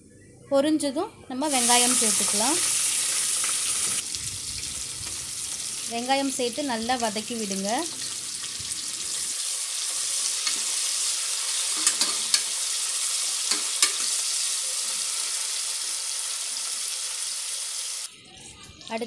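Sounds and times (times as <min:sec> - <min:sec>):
onions sizzling in hot oil: 0:01.4 - 0:18.1.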